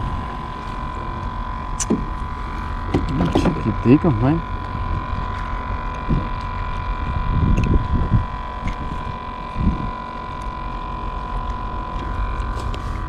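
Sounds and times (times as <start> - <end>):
high-pitched whine: 0.0 - 13.0
wind rumble on microphone: 0.0 - 13.0.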